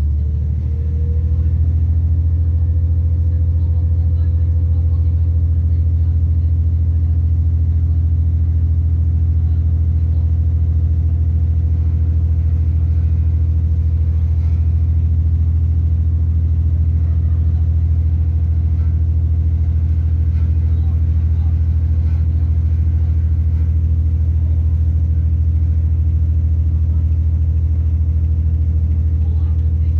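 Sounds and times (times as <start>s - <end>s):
train diesel engine hum: 0.0s - 29.9s.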